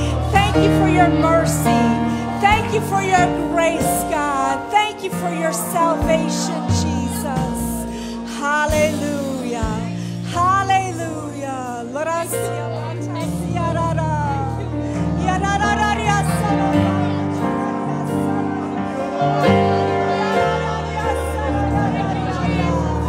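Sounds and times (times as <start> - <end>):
people singing: 0.0 - 10.0, 10.7 - 23.0
sustained keyboard chords: 0.0 - 23.0.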